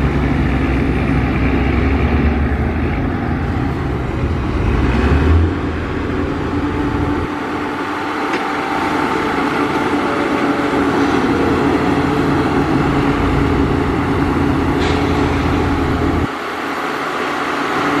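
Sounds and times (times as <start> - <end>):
diesel machinery rumbling: 0.0 - 18.0.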